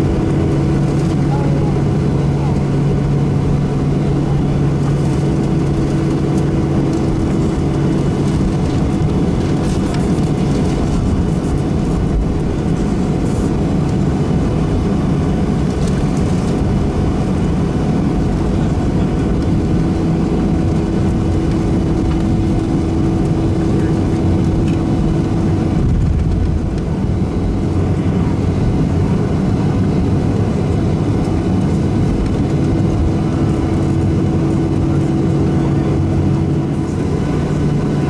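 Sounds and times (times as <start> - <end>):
jet engine rumble in cabin: 0.0 - 38.0.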